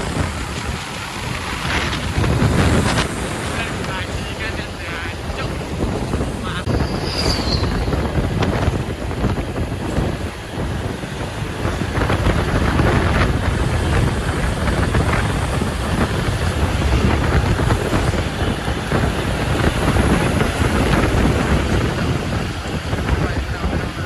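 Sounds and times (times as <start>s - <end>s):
road noise: 0.0s - 24.0s
truck engine: 0.0s - 24.0s.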